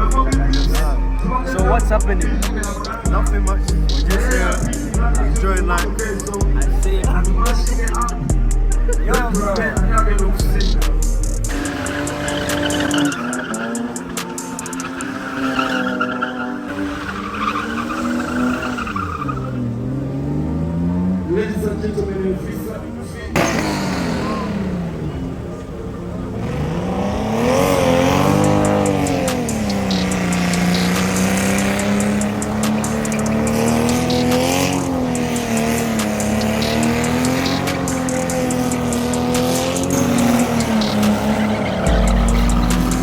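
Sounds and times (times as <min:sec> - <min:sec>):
car engine revving: 0:00.0 - 0:43.0
tyres squealing: 0:00.0 - 0:43.0.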